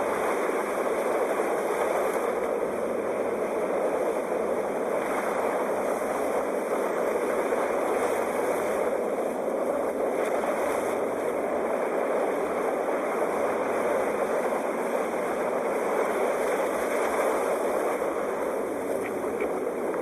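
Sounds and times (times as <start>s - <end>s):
surf rushing: 0.0s - 20.0s.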